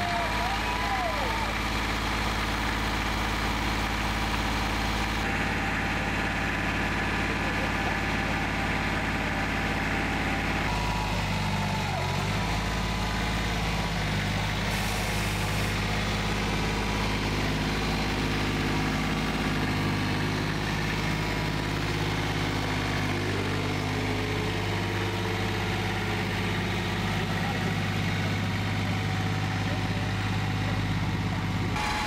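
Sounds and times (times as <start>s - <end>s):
small diesel engine running: 0.0s - 32.0s.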